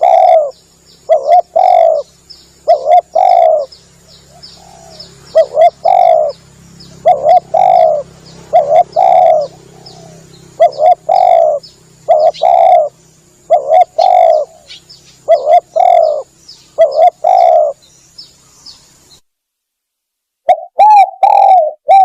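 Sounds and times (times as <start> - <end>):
dove cooing: 0.0 - 17.9, 20.5 - 22.0
small birds chirping: 0.0 - 19.3.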